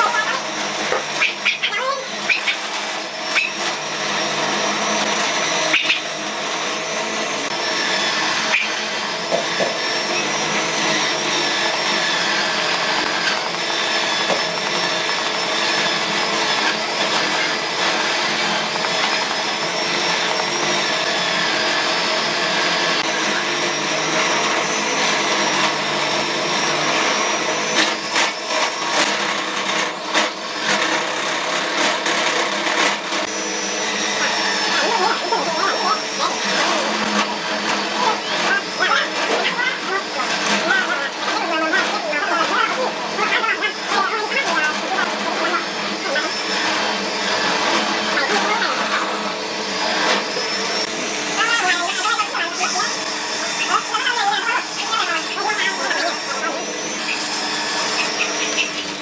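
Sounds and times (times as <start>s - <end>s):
grinder motor high whine: 0.0s - 59.0s.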